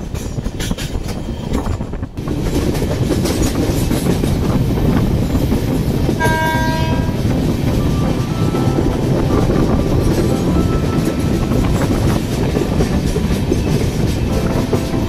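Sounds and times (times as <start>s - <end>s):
train rumbling and rattling: 0.0s - 15.0s.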